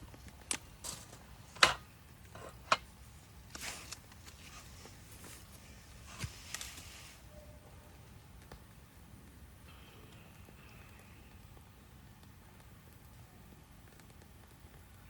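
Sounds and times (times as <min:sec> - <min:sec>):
campfire crackling: 0:00.0 - 0:07.3, 0:07.9 - 0:15.0.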